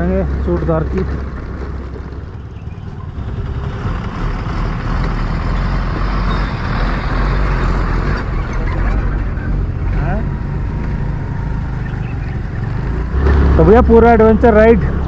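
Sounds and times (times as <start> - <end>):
scooter engine running: 0.0 - 5.7, 8.2 - 15.0
bus passing on gravel road: 0.0 - 15.0.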